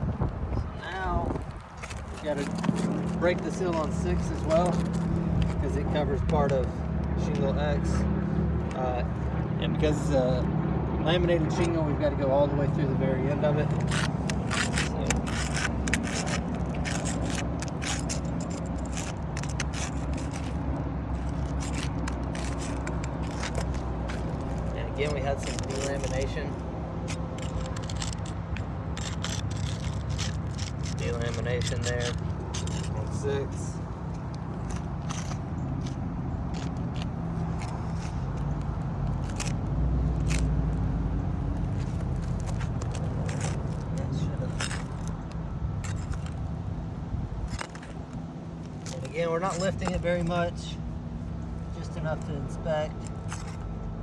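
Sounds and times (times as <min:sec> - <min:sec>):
tool scraping under shingle: 0:00.8 - 0:53.8.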